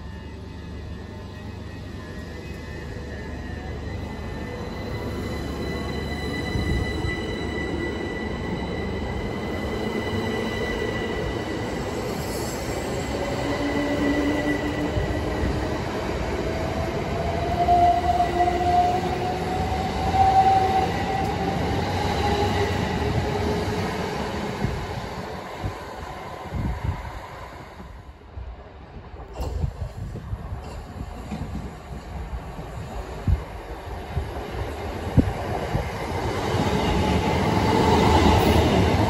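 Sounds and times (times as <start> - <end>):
train wheels rumbling on rail: 0.9 - 39.0.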